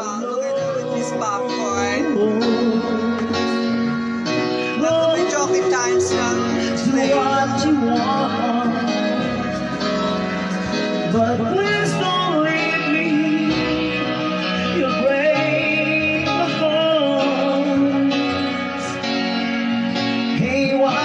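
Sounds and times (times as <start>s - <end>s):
backing track music: 0.0s - 21.0s
person singing karaoke into microphone: 0.0s - 21.0s.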